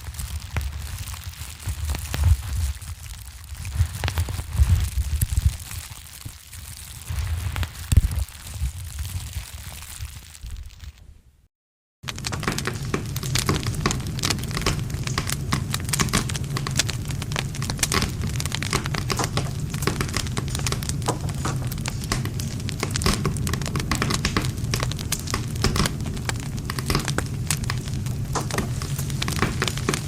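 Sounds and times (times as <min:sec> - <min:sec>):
campfire crackling and popping: 0:00.0 - 0:11.0, 0:12.0 - 0:30.0.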